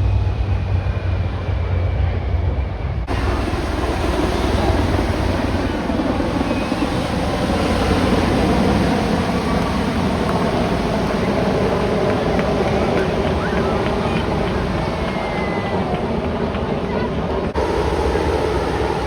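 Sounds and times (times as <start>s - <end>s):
low engine drone: 0.0s - 19.0s
rushing engine noise and wind: 0.0s - 19.0s.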